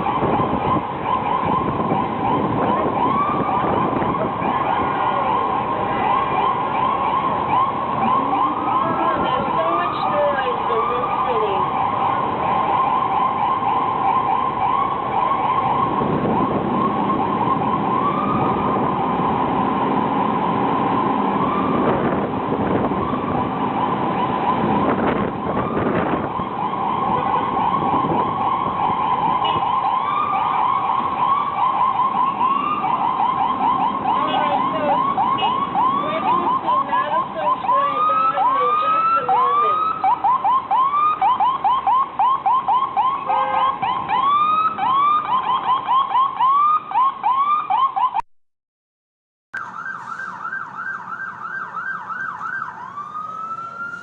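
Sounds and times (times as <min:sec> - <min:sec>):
ambulance sirens wailing: 0:00.0 - 0:48.2, 0:49.6 - 0:54.0
low traffic rumble: 0:00.0 - 0:48.2, 0:49.6 - 0:54.0.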